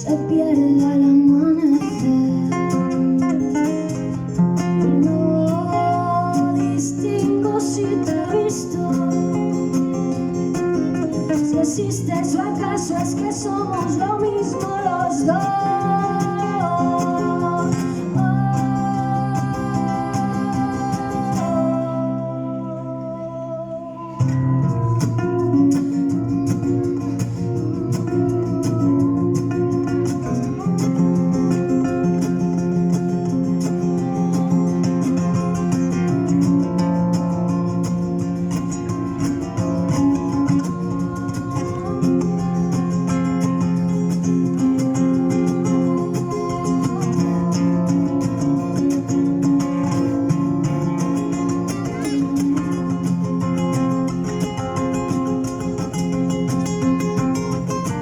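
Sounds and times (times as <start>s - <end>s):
guitar strummed and picked: 0.0s - 58.0s.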